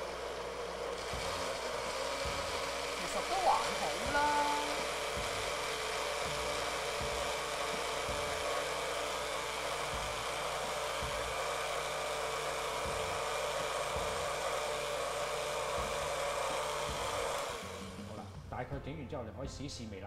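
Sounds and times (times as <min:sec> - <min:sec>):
electric blender motor running: 0:00.0 - 0:18.5.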